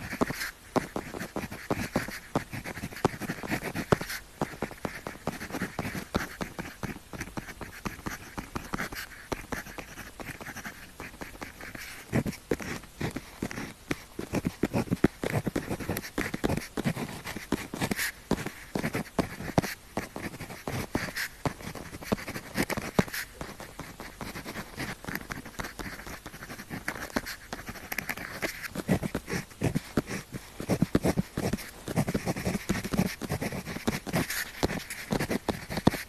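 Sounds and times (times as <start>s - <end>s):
pen scratching on paper: 0.0s - 36.0s.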